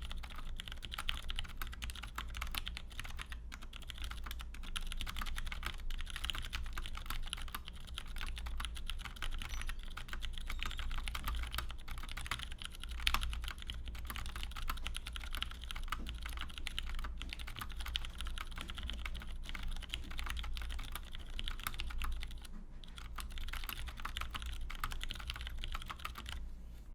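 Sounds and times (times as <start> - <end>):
mechanical keyboard typing: 0.0 - 26.4.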